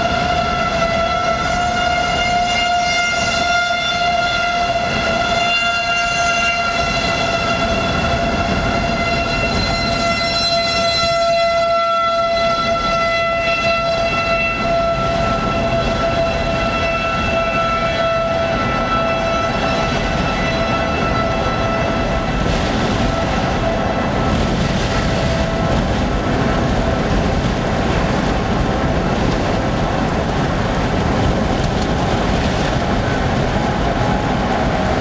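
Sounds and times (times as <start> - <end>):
warning siren steady tone: 0.0 - 30.4, 31.2 - 35.0.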